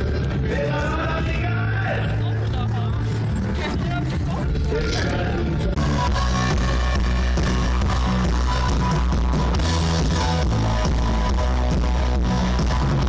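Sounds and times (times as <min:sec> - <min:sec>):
deep heavy bass: 0:00.0 - 0:13.0
electric guitars: 0:00.0 - 0:13.0
live band amplified music: 0:00.0 - 0:13.0.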